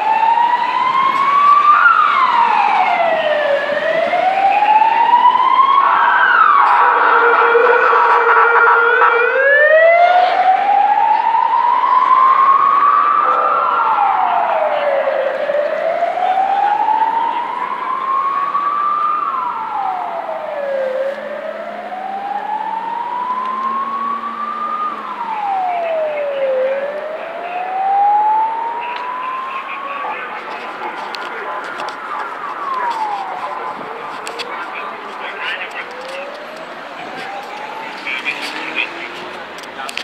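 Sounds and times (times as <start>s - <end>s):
emergency vehicle siren wailing: 0.0s - 40.0s.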